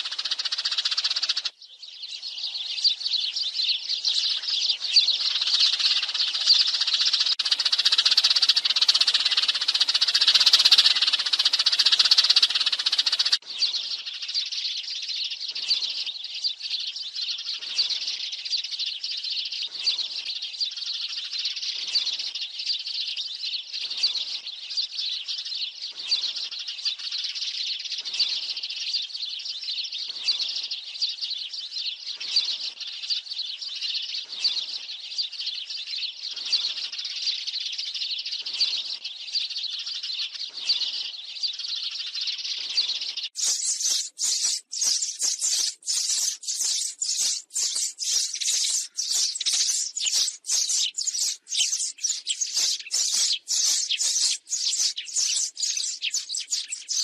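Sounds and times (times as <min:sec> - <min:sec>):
flock of sparrows chirping: 0:00.0 - 0:57.0.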